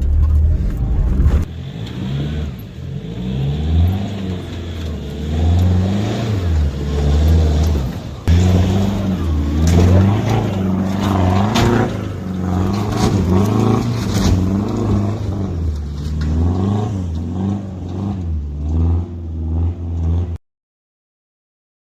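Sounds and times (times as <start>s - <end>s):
engine revving: 0.0s - 20.4s.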